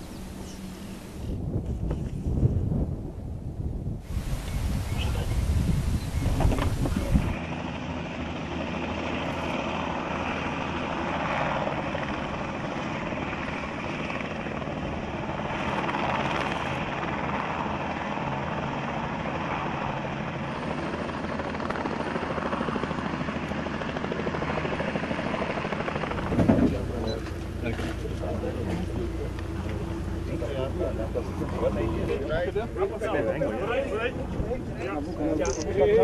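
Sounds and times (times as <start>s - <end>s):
helicopter rotor chop: 6.2s - 36.0s.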